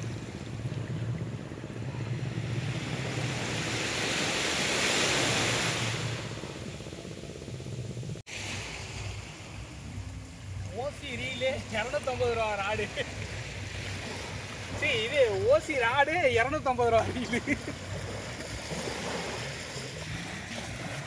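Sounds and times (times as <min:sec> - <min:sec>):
waves washing up beach: 0:00.0 - 0:07.5, 0:08.2 - 0:21.0.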